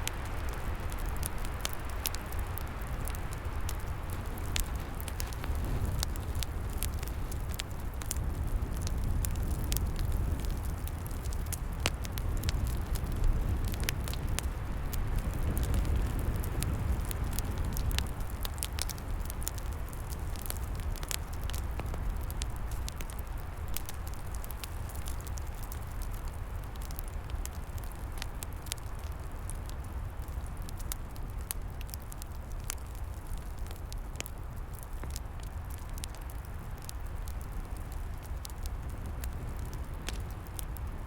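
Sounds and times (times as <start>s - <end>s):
low rumble of flame: 0.0s - 41.0s
wood fire crackling: 0.0s - 41.0s.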